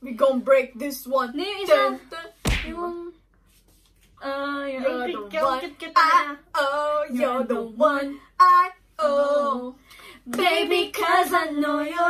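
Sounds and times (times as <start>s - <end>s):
women singing together: 0.2s - 3.2s, 4.2s - 12.0s.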